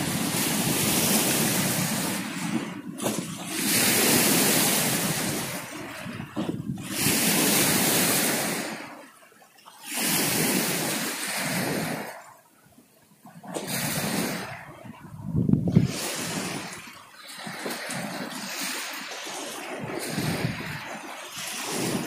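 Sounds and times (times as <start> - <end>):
sea waves washing in: 0.0 - 22.0.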